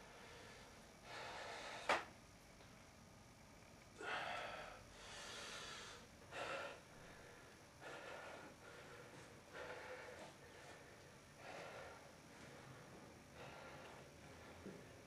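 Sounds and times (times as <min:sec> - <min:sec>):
man breathing heavily: 0:00.0 - 0:02.1, 0:04.0 - 0:15.0.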